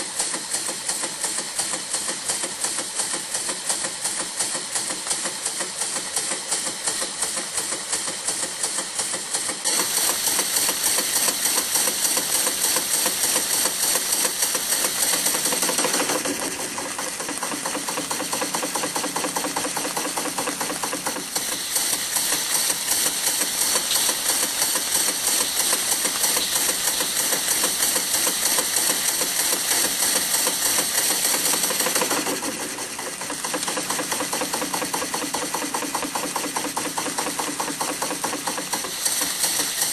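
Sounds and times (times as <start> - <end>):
steam engine clattering: 0.0 - 39.9
steam hiss: 0.0 - 39.9.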